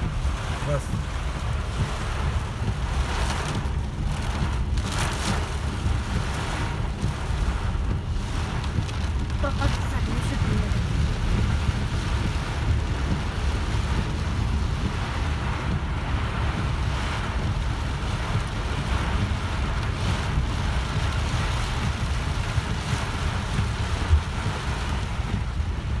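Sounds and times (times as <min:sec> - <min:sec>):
low road rumble: 0:00.0 - 0:26.0
rain and wet tyres hissing: 0:00.0 - 0:26.0.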